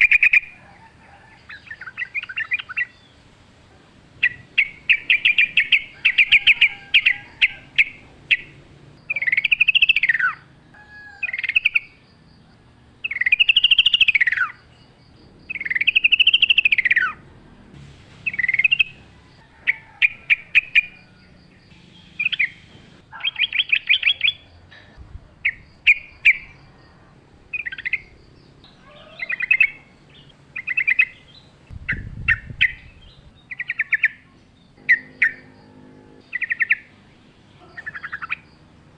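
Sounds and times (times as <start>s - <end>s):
bird singing chattering phrases: 0.0s - 0.8s, 1.4s - 38.9s.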